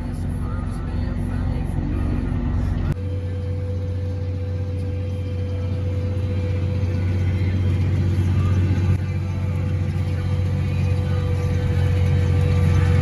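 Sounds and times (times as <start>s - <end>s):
faint steady whine: 0.0s - 13.0s
tractor engine drone: 0.0s - 13.0s.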